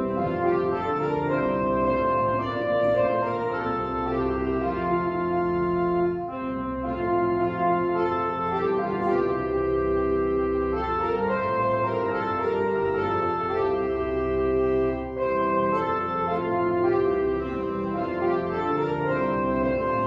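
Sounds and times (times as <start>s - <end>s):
organ playing slow chords: 0.0s - 20.0s.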